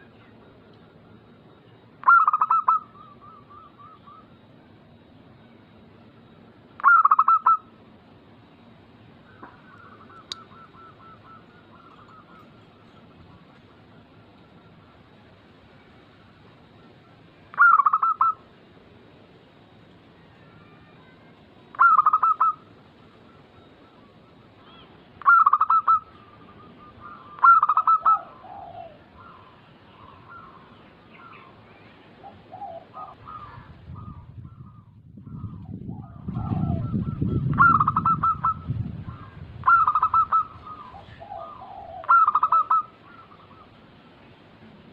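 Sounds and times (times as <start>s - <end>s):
doves cooing: 1.9s - 4.5s, 6.8s - 7.9s, 9.0s - 18.6s, 21.7s - 44.9s.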